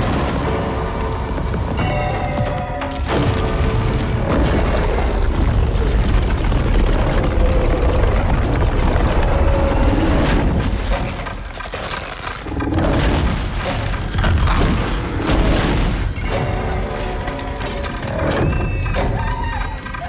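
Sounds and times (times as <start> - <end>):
earthquake rumble with booms and cracking: 0.0 - 20.0
film score: 0.0 - 20.0.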